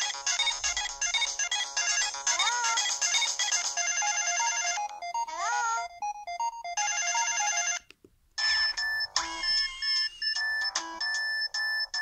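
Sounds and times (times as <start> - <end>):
phone ringtone melody: 0.0 - 12.0.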